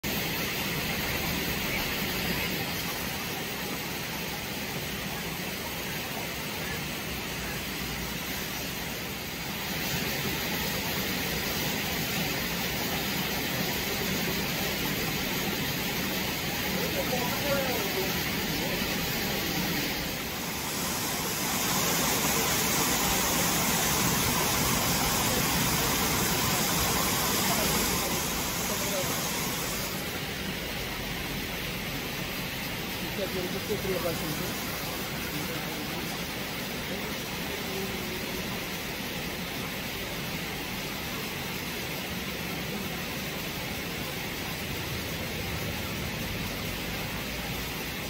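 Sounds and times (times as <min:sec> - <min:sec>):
stream running over rocks: 0:00.0 - 0:48.0.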